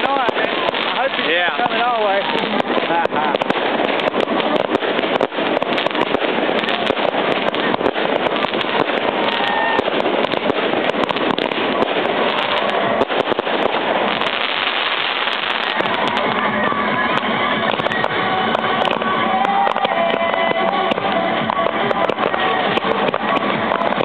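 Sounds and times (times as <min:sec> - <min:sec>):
continuous noisy background: 0:00.0 - 0:24.0
fireworks crackling and banging: 0:00.0 - 0:24.0.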